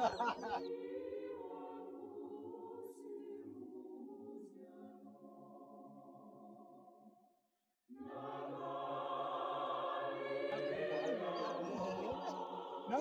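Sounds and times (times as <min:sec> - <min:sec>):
choir singing held chord: 0:00.0 - 0:06.7, 0:07.9 - 0:13.0.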